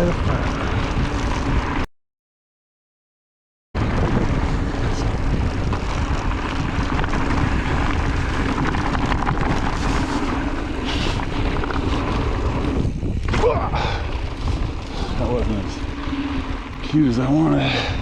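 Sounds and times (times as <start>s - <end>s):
bike rattling over dirt trail: 0.0s - 1.8s, 3.8s - 18.0s
wind buffeting microphone: 0.0s - 1.8s, 3.8s - 18.0s.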